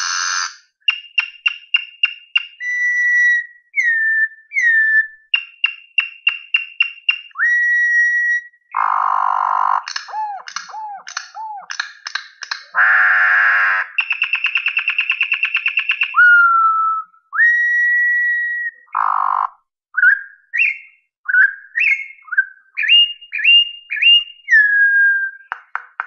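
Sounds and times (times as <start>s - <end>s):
bird singing with whistles: 0.0s - 25.6s.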